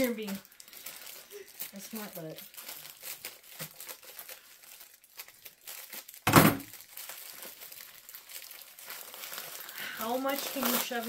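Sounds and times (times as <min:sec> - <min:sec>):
plastic bag crinkling: 0:00.0 - 0:11.0
plastic tearing: 0:00.0 - 0:11.0.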